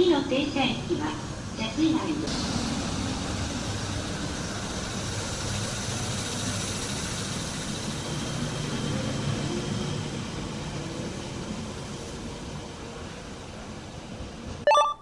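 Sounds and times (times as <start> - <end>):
train wheels rumbling on rail: 0.0 - 14.6.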